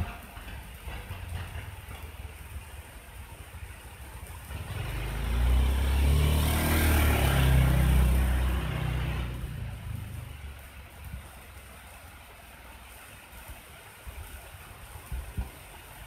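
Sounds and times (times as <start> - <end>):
light rain hiss: 0.0 - 16.0
vehicle passing on wet road: 0.0 - 16.0.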